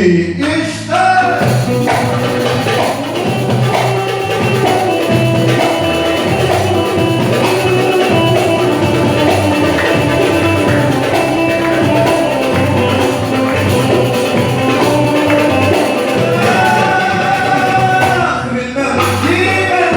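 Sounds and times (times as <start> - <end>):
song with singing: 0.0 - 19.9
instrumental music with steady beat: 1.2 - 18.4, 19.0 - 19.9.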